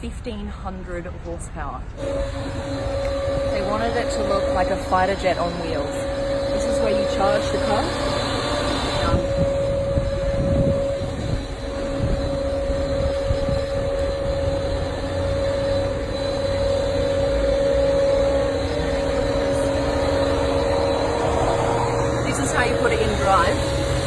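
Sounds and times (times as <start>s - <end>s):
vehicle engine rumbling: 1.8s - 24.0s.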